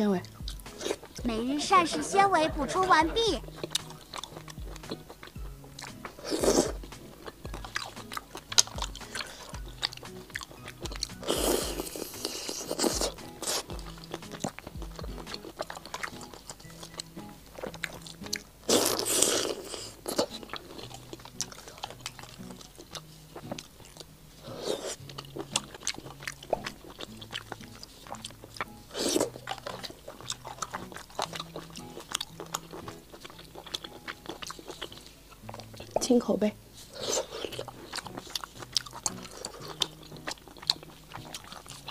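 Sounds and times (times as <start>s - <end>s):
close-miked chewing and biting: 0.0s - 41.9s
quiet background music: 0.0s - 41.9s.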